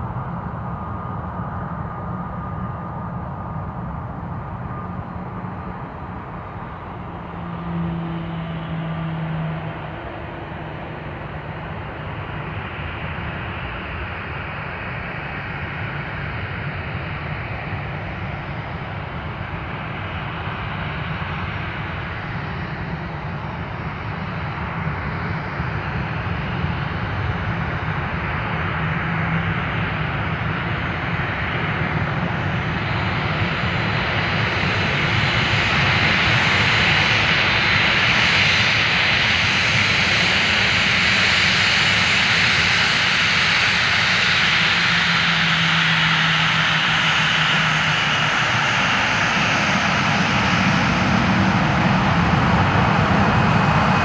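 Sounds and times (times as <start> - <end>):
jet airliner engines roaring: 0.0 - 54.0.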